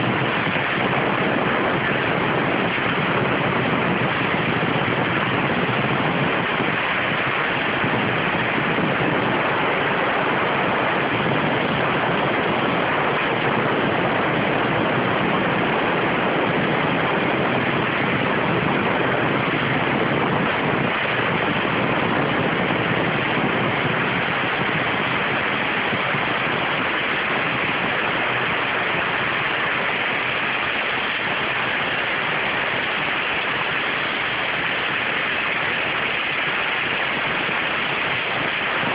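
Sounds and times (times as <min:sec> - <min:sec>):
high-pressure water jet hissing: 0:00.0 - 0:38.9.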